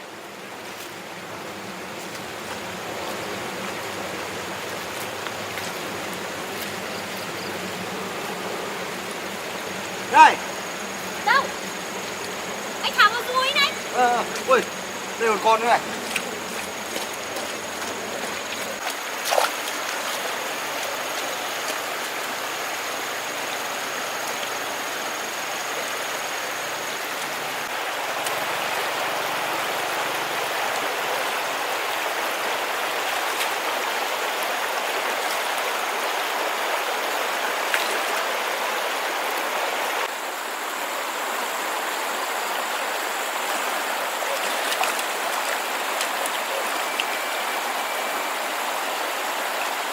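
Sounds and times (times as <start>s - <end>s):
water flowing over stones: 0.0s - 49.9s.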